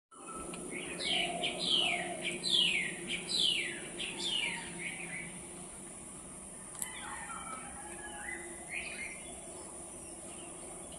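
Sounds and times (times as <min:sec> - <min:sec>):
faint low hum: 0:00.2 - 0:10.9.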